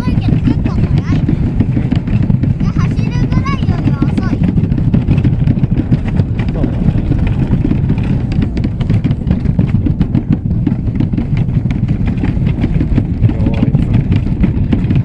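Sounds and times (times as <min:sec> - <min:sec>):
knocks and rattles: 0:00.0 - 0:15.0
train running rumble: 0:00.0 - 0:15.0.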